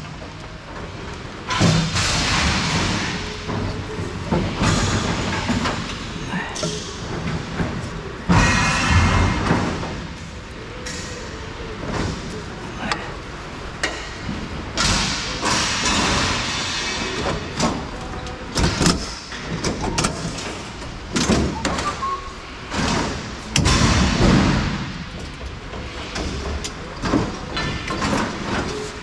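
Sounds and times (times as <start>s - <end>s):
scrap metal clanking and banging: 1.4s - 13.1s, 13.8s - 29.0s.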